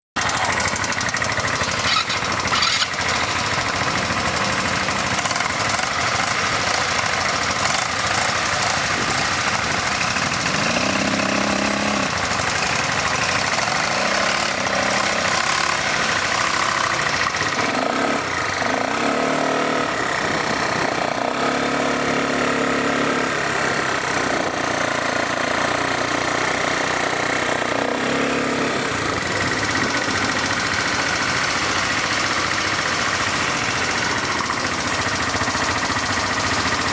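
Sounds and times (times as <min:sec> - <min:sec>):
atv engine running: 0:00.2 - 0:36.9.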